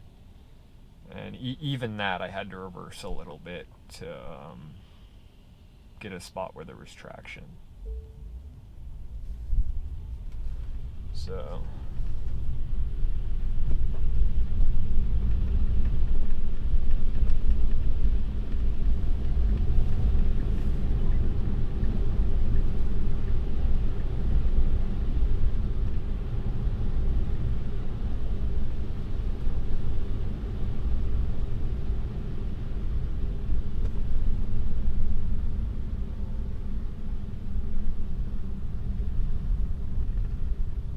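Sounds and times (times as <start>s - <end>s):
road and tyre noise in car: 0.0s - 40.9s.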